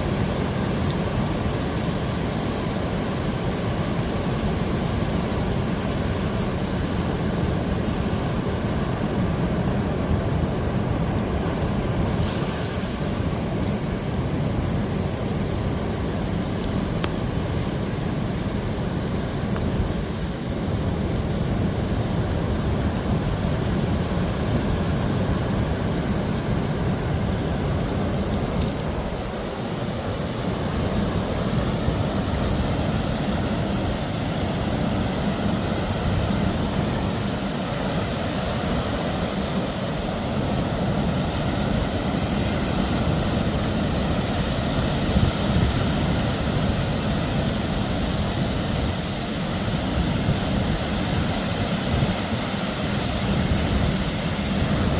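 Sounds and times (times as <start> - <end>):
ocean surf: 0.0 - 54.9
rain: 0.0 - 54.9.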